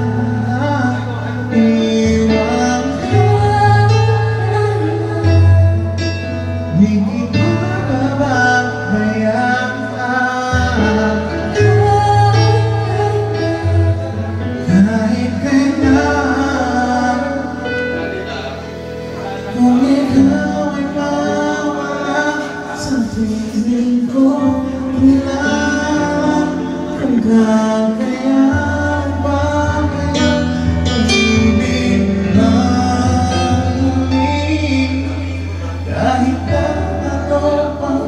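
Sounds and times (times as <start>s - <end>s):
bass notes: 0.0s - 38.0s
keyboard accompaniment: 0.0s - 38.0s
person singing: 0.0s - 38.0s.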